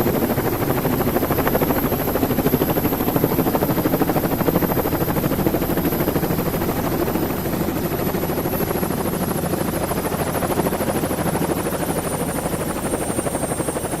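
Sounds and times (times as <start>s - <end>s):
helicopter rotor chop: 0.0s - 14.0s.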